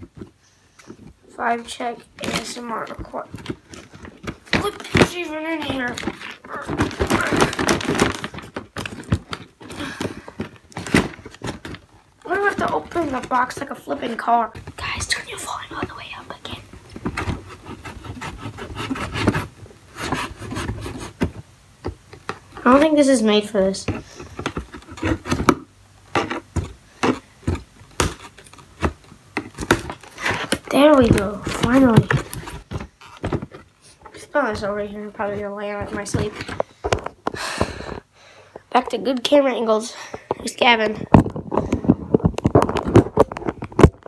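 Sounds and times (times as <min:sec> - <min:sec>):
cardboard flaps scraping: 0:00.0 - 0:16.0, 0:16.6 - 0:23.0, 0:23.6 - 0:37.9.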